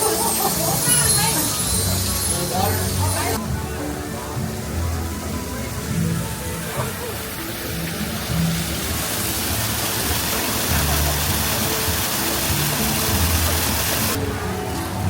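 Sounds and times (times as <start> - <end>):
fountain jets spraying: 0.0 - 15.0
music with slow low notes: 0.0 - 15.0.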